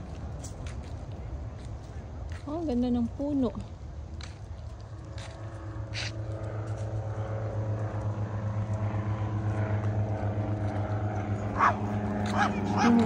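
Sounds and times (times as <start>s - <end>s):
aircraft droning overhead: 0.0s - 13.0s.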